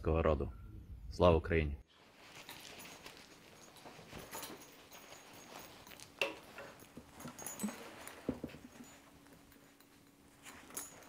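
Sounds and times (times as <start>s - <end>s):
cloth jacket rustling: 1.9s - 11.0s.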